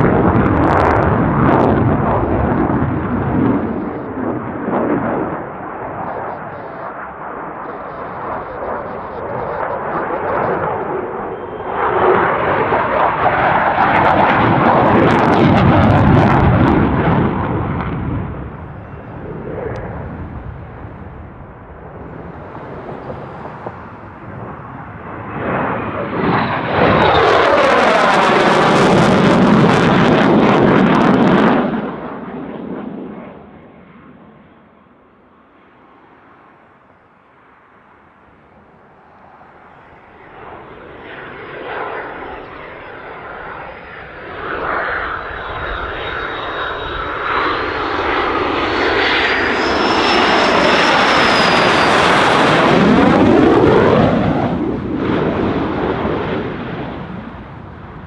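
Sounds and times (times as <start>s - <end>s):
jet aircraft passing overhead: 0.0s - 58.0s.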